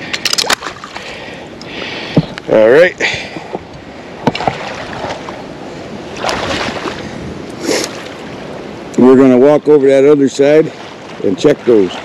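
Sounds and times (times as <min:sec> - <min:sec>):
water sloshing from wading: 0:00.0 - 0:02.6, 0:03.2 - 0:09.0, 0:10.3 - 0:12.0
water splashing surges: 0:00.0 - 0:12.0.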